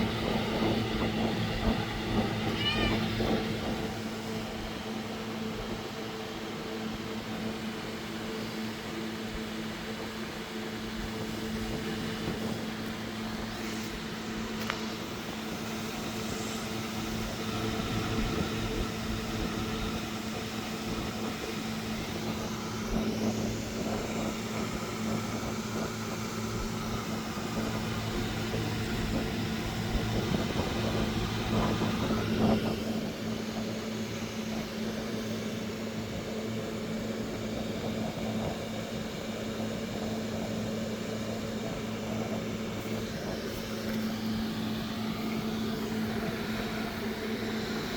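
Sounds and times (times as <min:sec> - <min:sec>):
low mechanical motor hum: 0:00.0 - 0:47.9.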